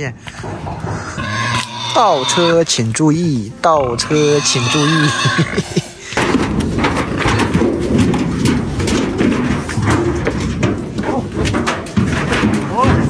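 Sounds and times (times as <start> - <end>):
knocks and thumps: 0.0 - 3.8, 4.6 - 13.0.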